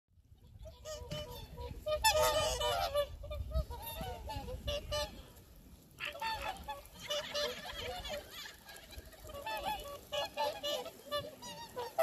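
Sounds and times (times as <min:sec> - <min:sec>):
swans honking: 0:00.4 - 0:12.0.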